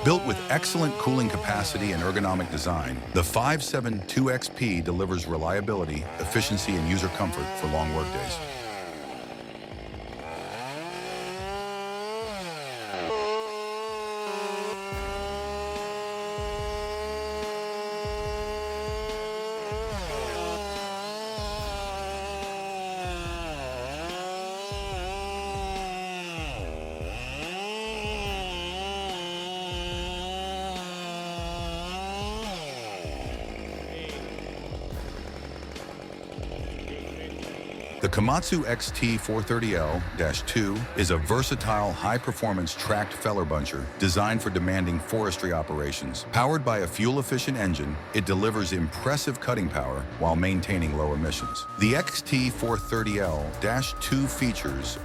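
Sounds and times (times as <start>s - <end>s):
chainsaw cutting wood: 0.0s - 55.0s
chainsaw revving: 0.0s - 55.0s.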